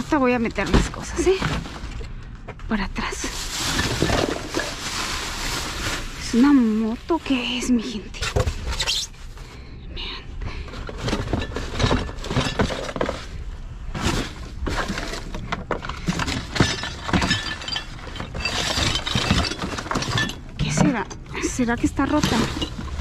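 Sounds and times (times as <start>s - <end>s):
cardboard and plastic shifting: 0.0s - 9.4s, 10.6s - 23.0s.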